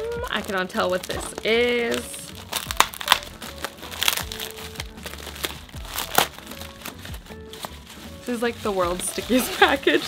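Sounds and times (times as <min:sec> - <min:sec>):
plastic packaging crinkling: 0:00.0 - 0:10.0
soft background music: 0:00.0 - 0:10.0.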